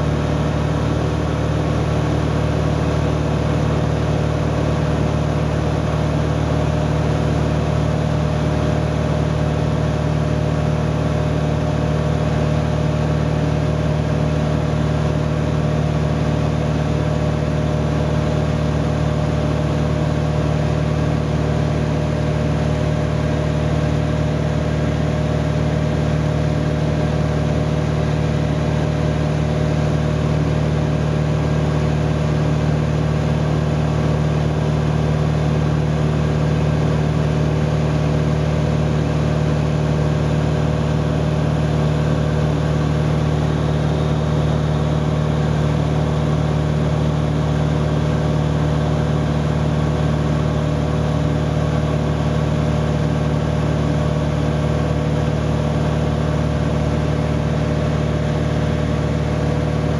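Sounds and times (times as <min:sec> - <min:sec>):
airplane engine drone: 0:00.0 - 0:59.9.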